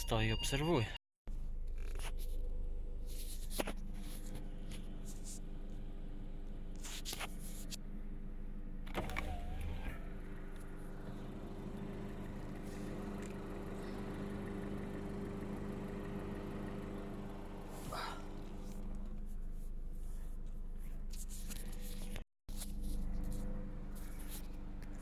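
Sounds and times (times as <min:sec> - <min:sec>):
car engine running: 0:01.9 - 0:25.0.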